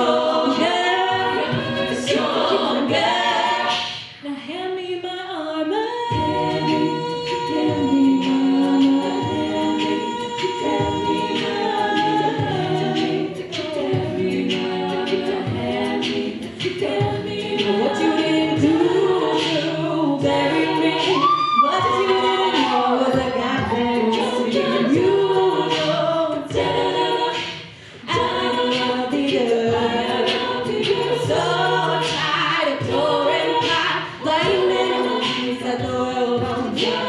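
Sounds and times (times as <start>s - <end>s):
steady vocal beat: 0.0s - 37.0s
women's a cappella group singing: 0.0s - 37.0s.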